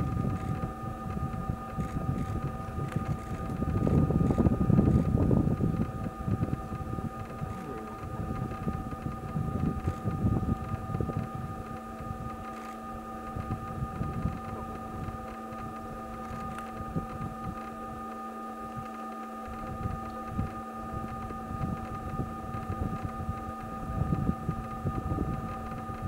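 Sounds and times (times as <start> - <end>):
wind buffeting microphone: 0.0 - 18.1, 19.5 - 26.0
steady tonal hum: 0.0 - 26.0.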